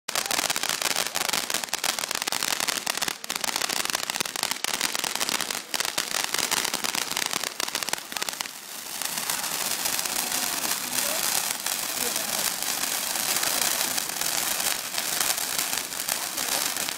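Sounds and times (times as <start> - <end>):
fountain fireworks popping: 0.1 - 16.9.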